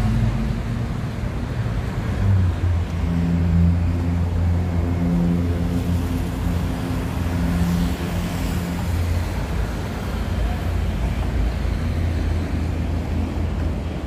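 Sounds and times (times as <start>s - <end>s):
street traffic: 0.0s - 14.0s
vehicle engine humming: 0.0s - 14.0s.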